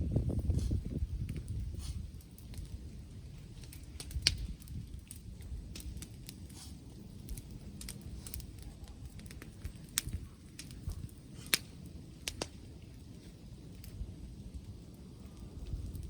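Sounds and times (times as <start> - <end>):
wind rumble on microphone: 0.0 - 16.0
wood fire crackling and popping: 0.0 - 16.0.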